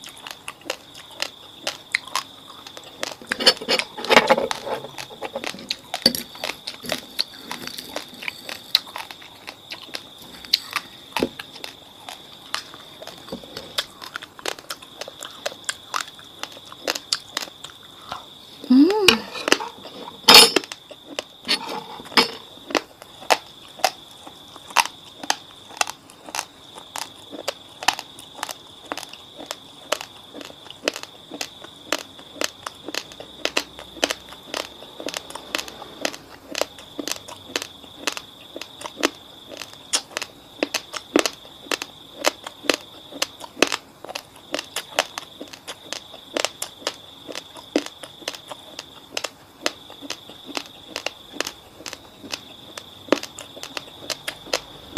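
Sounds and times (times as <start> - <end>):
rice crunching while chewed: 0.0 - 18.4, 19.1 - 54.9.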